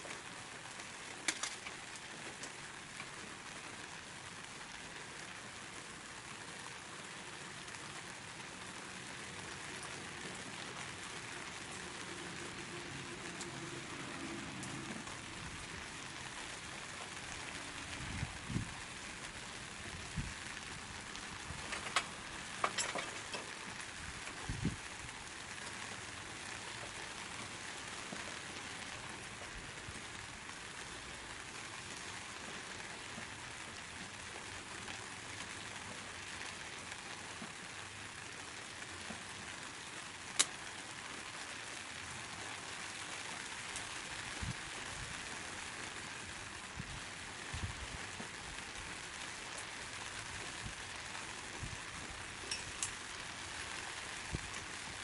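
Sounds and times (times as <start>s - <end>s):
fire crackling pops: 0.1s - 5.4s, 8.8s - 37.8s, 38.4s - 41.4s, 46.2s - 55.0s
wood fire hissing: 0.1s - 55.0s.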